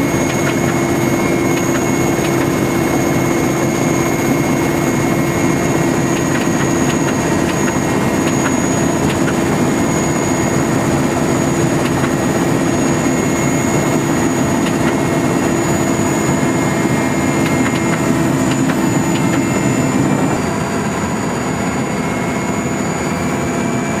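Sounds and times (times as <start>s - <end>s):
engine humming: 0.0s - 22.5s.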